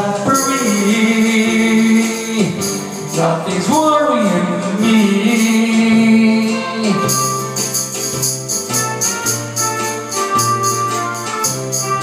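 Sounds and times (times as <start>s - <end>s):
held bass line: 0.0s - 12.0s
light jingling beat: 0.0s - 12.0s.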